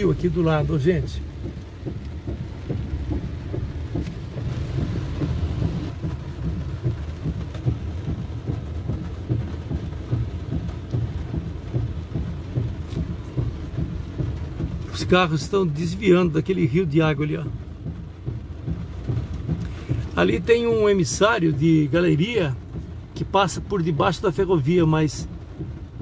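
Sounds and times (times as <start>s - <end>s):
low road rumble: 0.0s - 26.0s
rain pattering on car roof: 0.0s - 26.0s.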